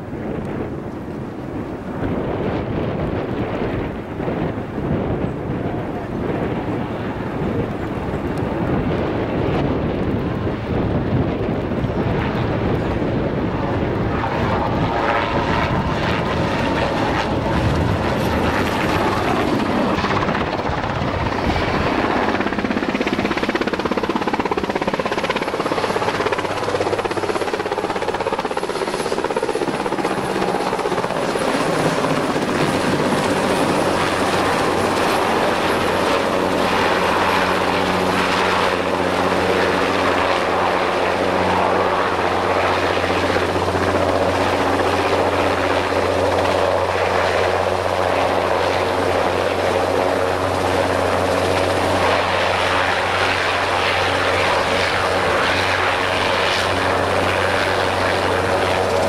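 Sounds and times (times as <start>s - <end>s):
helicopter rotor beat: 0.0s - 59.0s
helicopter rushing past: 0.0s - 59.0s
high turbine whine: 0.0s - 59.0s.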